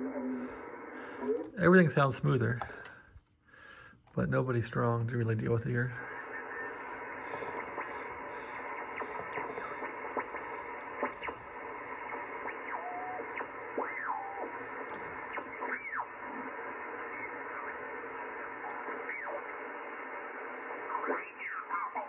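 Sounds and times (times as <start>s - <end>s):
radio speaker hissing: 0.0s - 22.0s.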